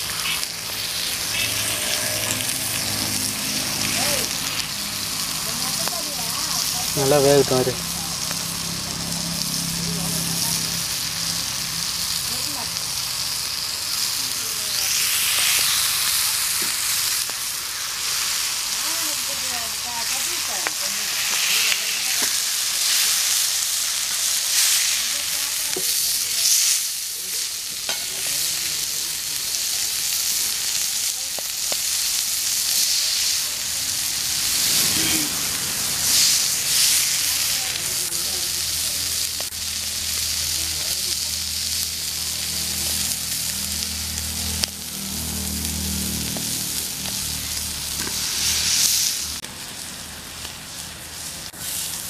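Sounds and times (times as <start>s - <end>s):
oil sizzling in a pan: 0.0s - 52.0s.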